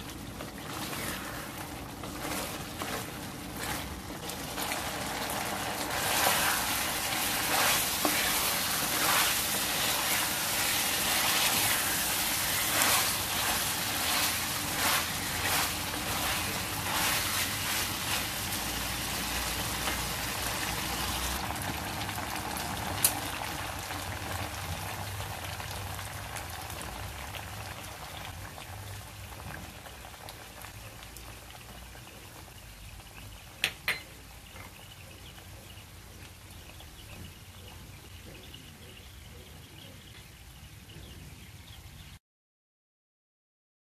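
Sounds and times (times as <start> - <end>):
food sizzling and bubbling in a pan: 0.0 - 42.2.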